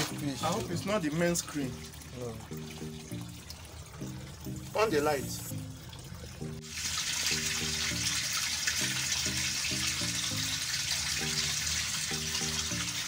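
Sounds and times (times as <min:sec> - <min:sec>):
background music low notes: 0:00.0 - 0:13.0
water running: 0:00.0 - 0:13.0.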